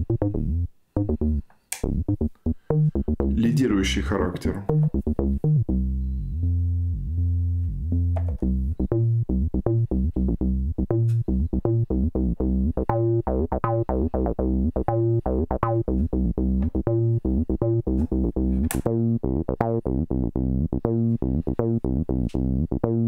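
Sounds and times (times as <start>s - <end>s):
buzzy synth bassline: 0.0s - 23.0s.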